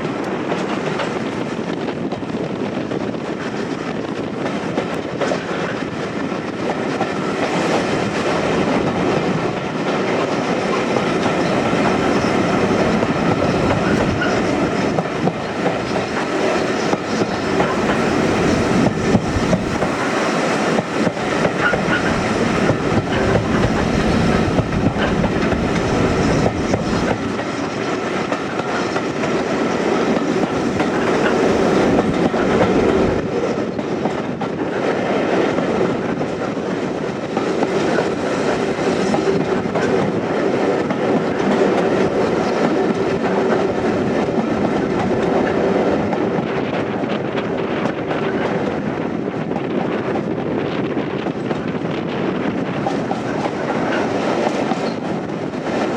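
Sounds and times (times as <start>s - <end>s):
clickety-clack over rail joints: 0.0s - 55.9s
train wheels rumbling on track: 0.0s - 55.9s.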